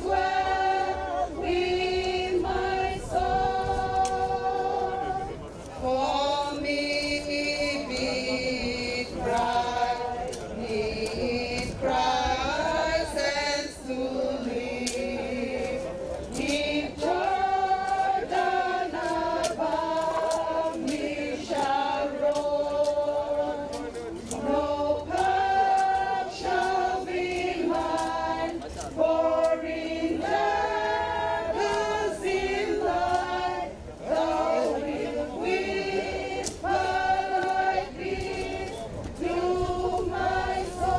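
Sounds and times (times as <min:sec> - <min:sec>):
group singing a slow hymn: 0:00.0 - 0:40.9.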